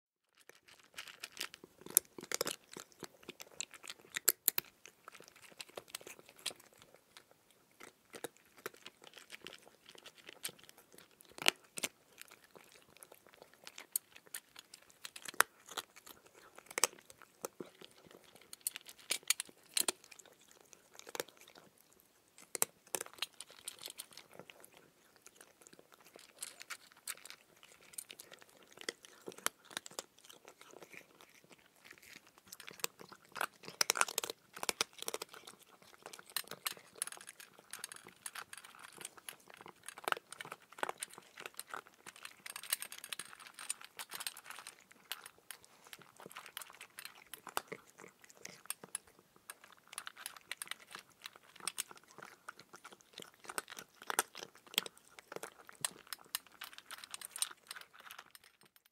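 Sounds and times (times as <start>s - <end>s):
cat crunching dry kibble: 0.3s - 58.9s.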